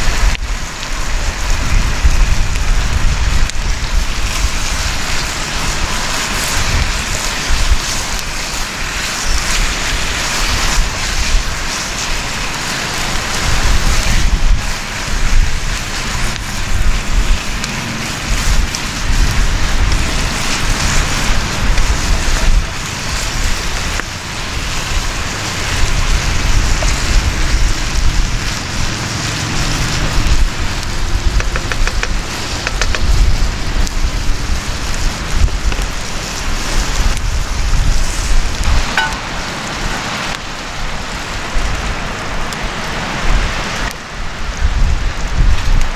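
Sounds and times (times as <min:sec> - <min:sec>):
meat sizzling in a pot: 0:00.0 - 0:42.6
wind rumble on microphone: 0:00.0 - 0:45.9.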